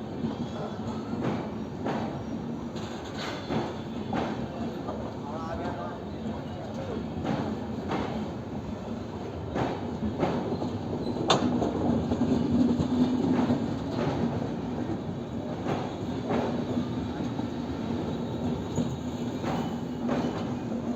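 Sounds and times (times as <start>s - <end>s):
train rumbling on rails: 0.0s - 20.9s.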